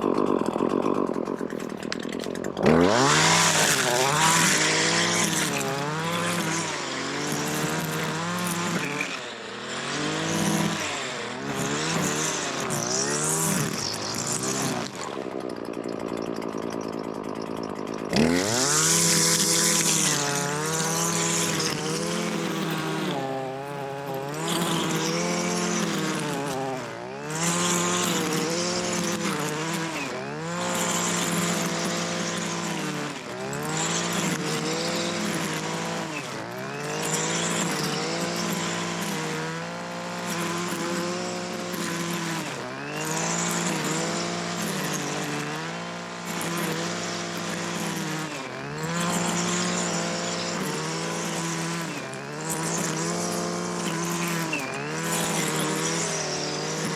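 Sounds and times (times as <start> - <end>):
small gasoline engine running: 0.0 - 56.9.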